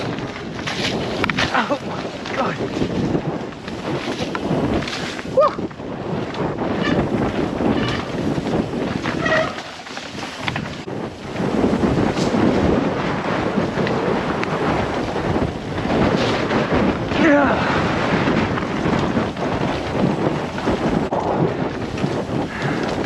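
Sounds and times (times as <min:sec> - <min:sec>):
bike rattling over bumps: 0:00.0 - 0:23.0
tyre rumble on dirt: 0:00.0 - 0:23.0
wind buffeting microphone: 0:00.0 - 0:23.0.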